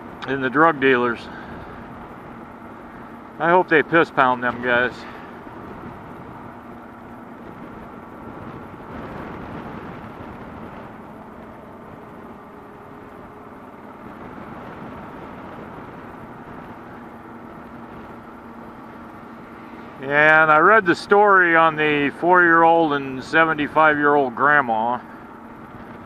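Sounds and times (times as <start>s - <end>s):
wind noise: 0.0s - 24.3s, 24.9s - 26.0s
motorcycle engine running: 0.0s - 26.0s
road noise: 0.0s - 26.0s.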